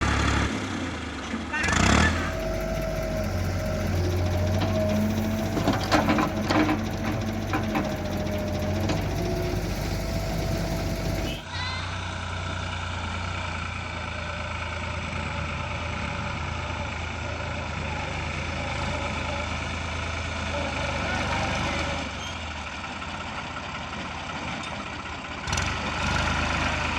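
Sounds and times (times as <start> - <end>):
diesel machinery running: 0.0 - 26.9.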